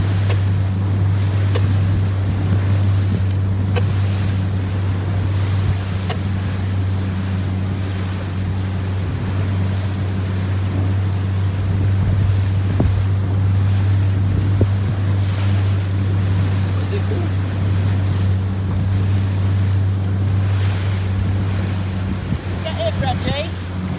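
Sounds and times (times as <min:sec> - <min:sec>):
outboard motor humming: 0:00.0 - 0:23.9
sea: 0:00.0 - 0:23.9
wind buffeting microphone: 0:00.0 - 0:23.9.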